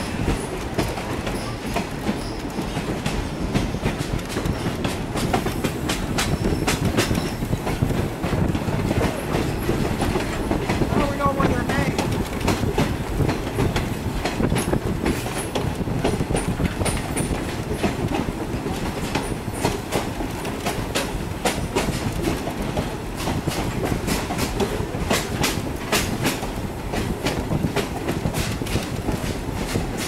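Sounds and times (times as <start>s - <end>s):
train rumbling: 0.0s - 30.0s
wheels clicking on track: 0.0s - 30.0s.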